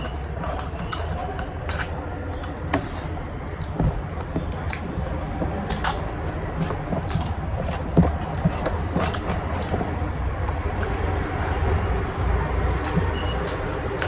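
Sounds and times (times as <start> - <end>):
low background rumble: 0.0 - 14.0
people chewing and lip-smacking: 0.0 - 14.0.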